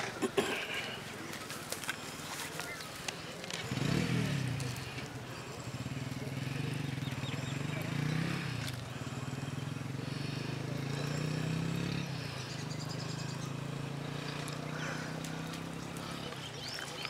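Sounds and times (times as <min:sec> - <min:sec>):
low pulsing engine hum: 0:02.0 - 0:17.0.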